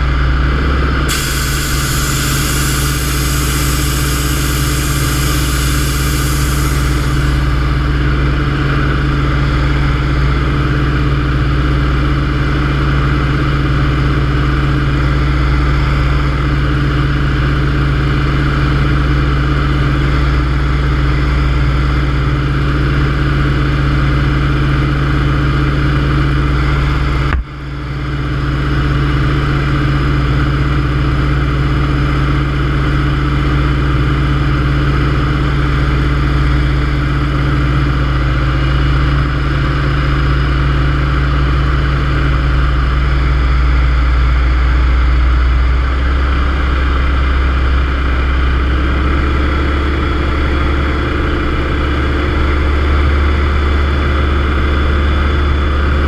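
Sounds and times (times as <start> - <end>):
aircraft engine drone in cockpit: 0.0 - 56.0.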